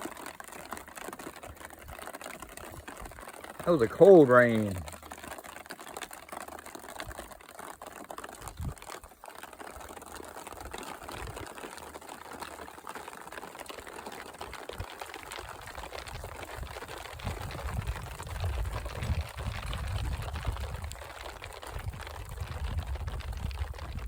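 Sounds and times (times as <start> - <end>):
rain of large drops: 0.0 - 24.0.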